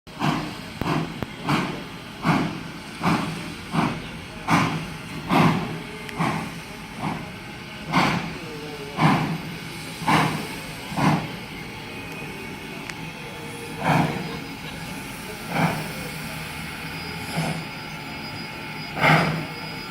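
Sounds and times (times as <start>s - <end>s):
steady steam hiss: 0.1s - 19.9s
steam locomotive chuffing: 0.1s - 19.9s.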